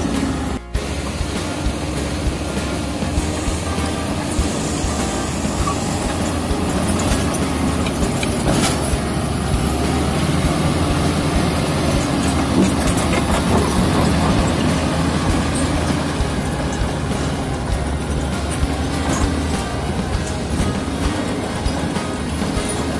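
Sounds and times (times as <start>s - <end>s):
bulldozer diesel engine running: 0.0s - 22.9s
metal clanks: 0.0s - 22.9s.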